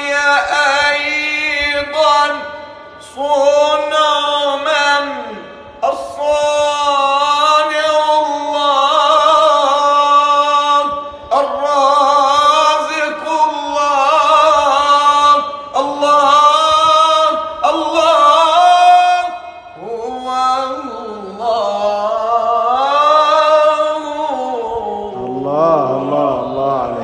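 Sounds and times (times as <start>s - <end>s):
man chanting: 0.0s - 27.0s.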